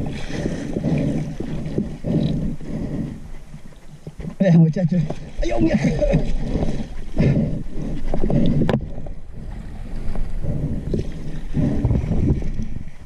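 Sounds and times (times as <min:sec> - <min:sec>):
water splashing and churning: 0:00.0 - 0:13.0.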